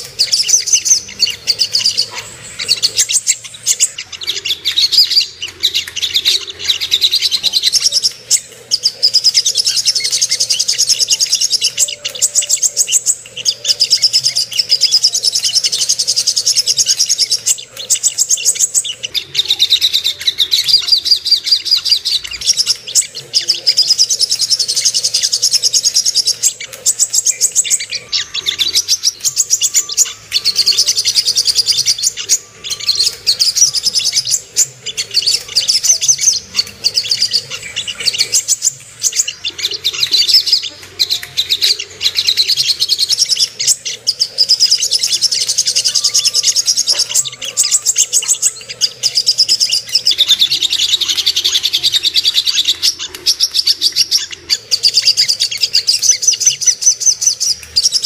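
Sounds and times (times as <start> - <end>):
bird twittering trill: 0.0 - 58.0.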